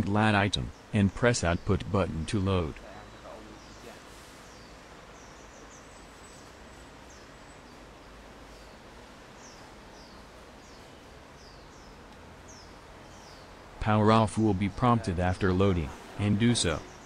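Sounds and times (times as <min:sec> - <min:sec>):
bird chirping: 0:00.0 - 0:17.0
faint steady hiss: 0:00.0 - 0:17.0.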